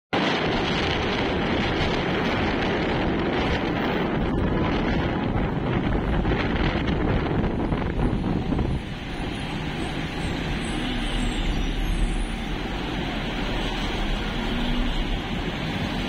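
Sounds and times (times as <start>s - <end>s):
bus driving rumble: 0.1s - 16.0s
wind buffeting microphone: 0.2s - 16.0s.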